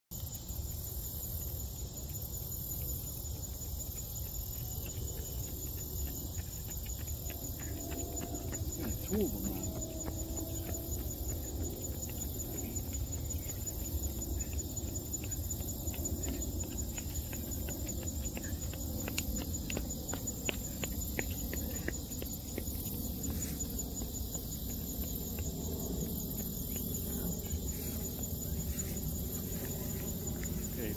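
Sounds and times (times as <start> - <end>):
insects trilling: 0.2 - 30.9.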